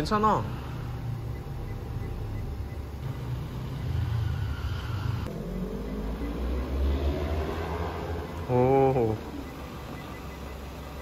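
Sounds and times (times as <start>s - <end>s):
car engine: 0.0s - 11.0s
road noise: 0.0s - 11.0s.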